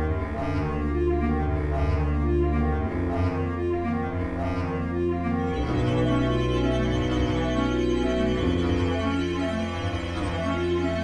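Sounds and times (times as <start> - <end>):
slow chordal background music: 0.0 - 11.0.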